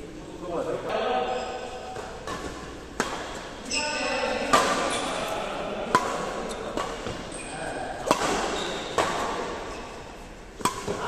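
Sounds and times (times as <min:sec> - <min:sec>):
rackets hitting shuttlecock: 0:01.9 - 0:11.0.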